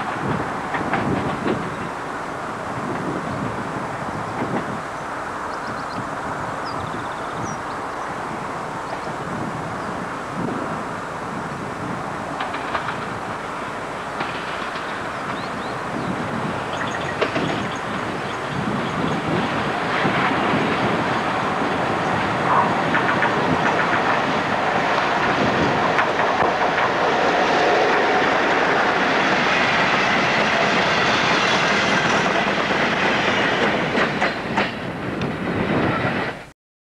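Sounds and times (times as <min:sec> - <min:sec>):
diesel locomotive engine: 0:00.0 - 0:36.5.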